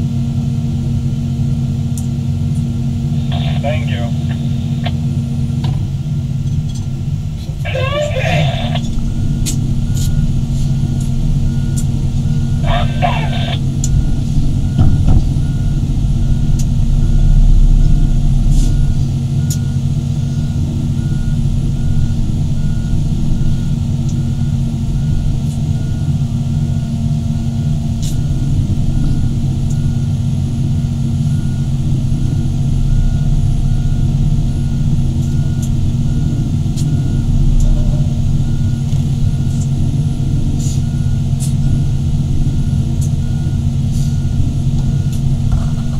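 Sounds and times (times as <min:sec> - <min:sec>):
excavator diesel engines running: 0:00.0 - 0:45.9
travel alarm beeping: 0:07.6 - 0:45.9.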